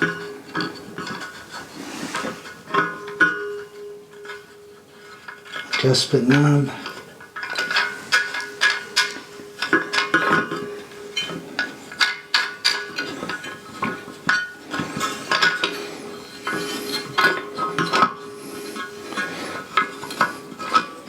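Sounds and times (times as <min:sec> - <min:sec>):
metallic clinks and knocks: 0:00.0 - 0:21.0.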